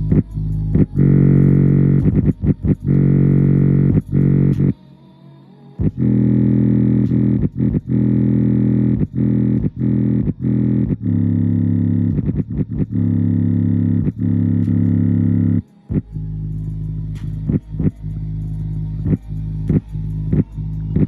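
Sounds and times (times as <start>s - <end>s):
deep buzzy bass tone from speaker: 0.0s - 4.8s, 5.8s - 21.0s.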